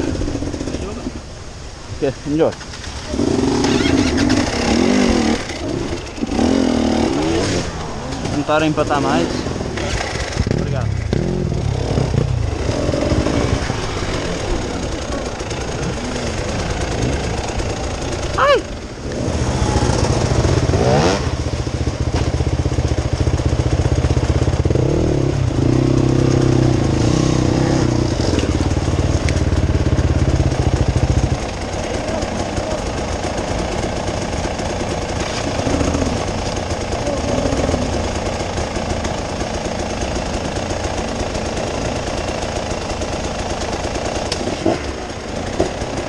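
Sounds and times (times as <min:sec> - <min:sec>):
off-road vehicle engine rumbling: 0:00.0 - 0:46.0.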